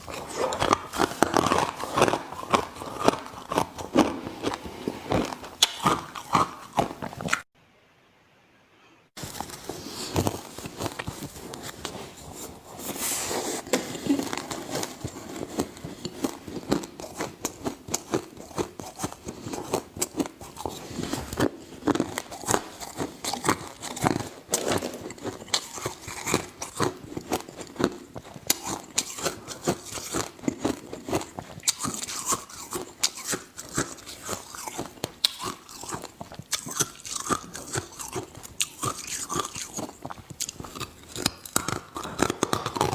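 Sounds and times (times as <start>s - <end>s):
chewing ice crunches: 0.0s - 7.5s, 14.0s - 42.9s.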